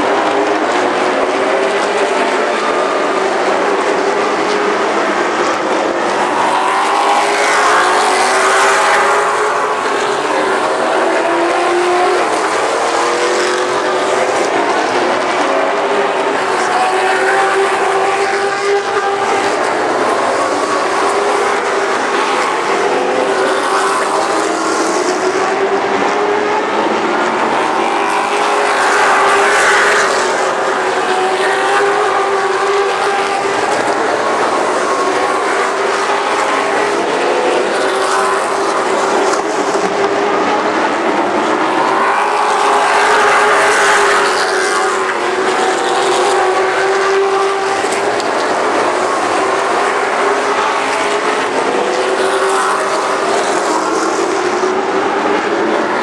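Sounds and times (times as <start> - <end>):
race car engines: 0.0 - 56.0.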